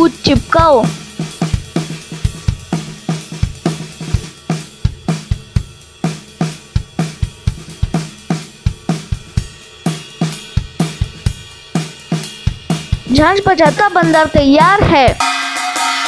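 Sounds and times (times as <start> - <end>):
drum beat with bass: 0.0 - 16.0.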